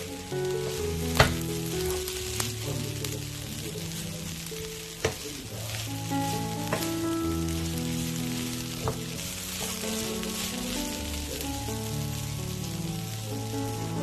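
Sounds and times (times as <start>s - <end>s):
potatoes sizzling in oil: 0.0s - 14.0s
soft background music: 0.0s - 14.0s.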